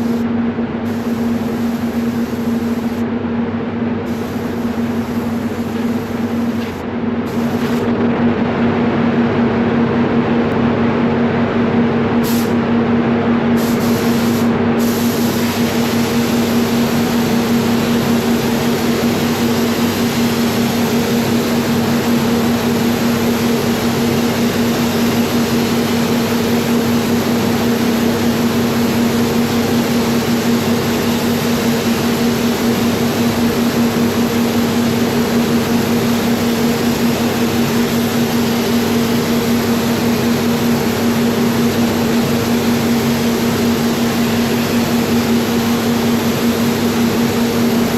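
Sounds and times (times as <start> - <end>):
spray gun air hiss: 0.0 - 0.2, 0.8 - 3.0, 4.0 - 7.9, 12.2 - 12.6, 13.6 - 47.9
steady low hum: 0.0 - 47.9.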